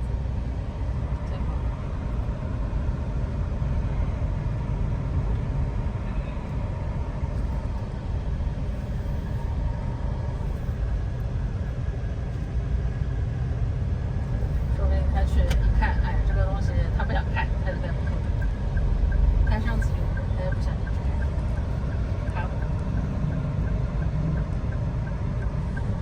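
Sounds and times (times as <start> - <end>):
car engine rumble: 0.0 - 26.0
road noise inside car: 0.0 - 26.0.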